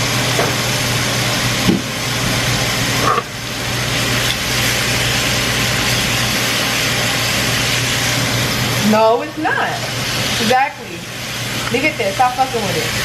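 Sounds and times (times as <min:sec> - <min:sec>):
range hood fan humming: 0:00.0 - 0:13.0
steak sizzling in a pan: 0:01.5 - 0:13.0.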